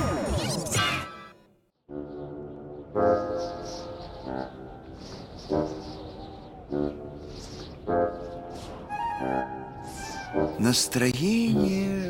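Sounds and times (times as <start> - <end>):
soft background music: 1.9 - 12.0.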